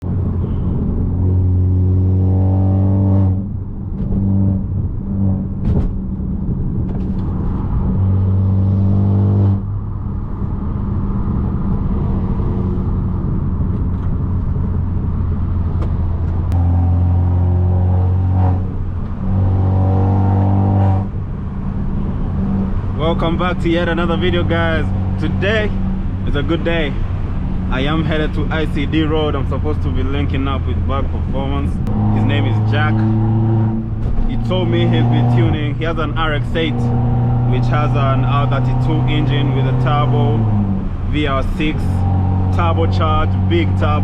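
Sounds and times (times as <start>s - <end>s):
car exhaust droning: 0.0s - 44.0s.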